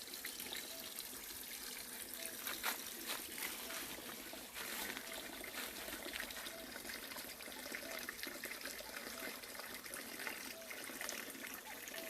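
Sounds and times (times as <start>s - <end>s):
stream trickling and splashing: 0.0s - 12.0s.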